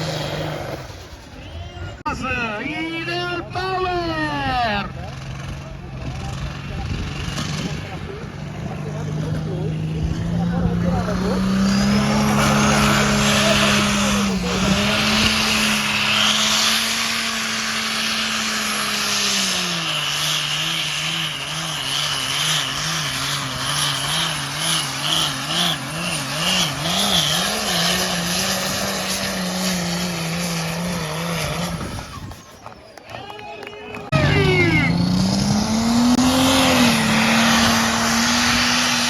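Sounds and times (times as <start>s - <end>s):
tractor engine running hard: 4.4s - 33.0s, 34.0s - 39.0s.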